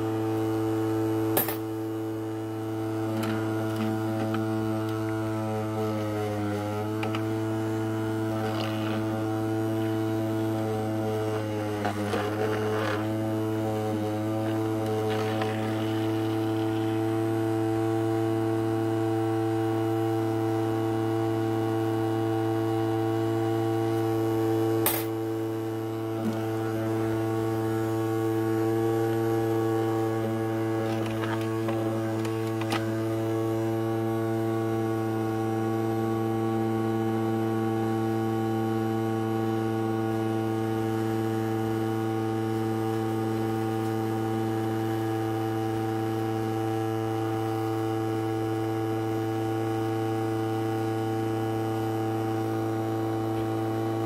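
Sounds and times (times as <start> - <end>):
ultrasonic cleaner humming: 0.0 - 54.0.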